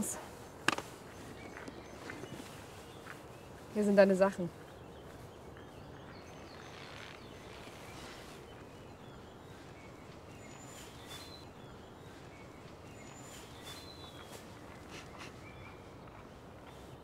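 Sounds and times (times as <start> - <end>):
low background hiss: 0.0 - 16.6
high bird chirps: 0.9 - 15.9.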